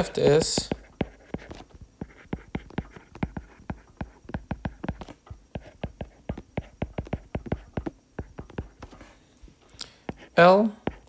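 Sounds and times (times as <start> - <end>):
stylus tapping on tablet screen: 0.1 - 9.0, 10.1 - 11.0.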